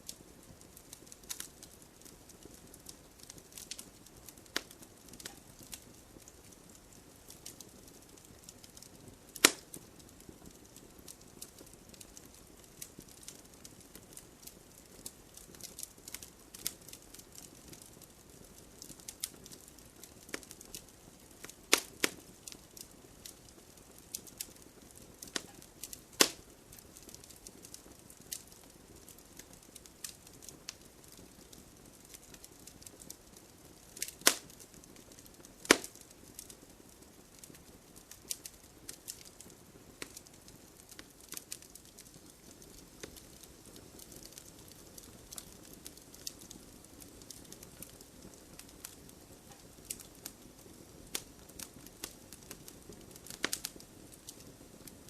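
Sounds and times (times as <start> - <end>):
soft hiss: 0.0 - 55.0
wood fire crackling: 0.0 - 55.0.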